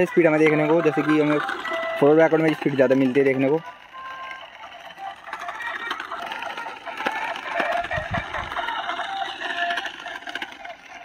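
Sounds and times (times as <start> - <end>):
tinny electronic tunes: 0.0 - 9.9
toy electric motor whirring: 0.0 - 11.0.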